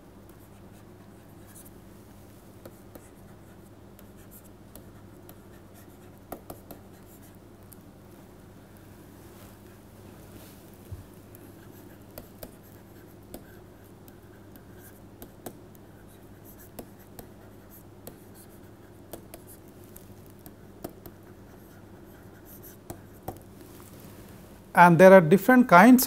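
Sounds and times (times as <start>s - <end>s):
stylus tapping and scratching on tablet: 0.2s - 24.4s.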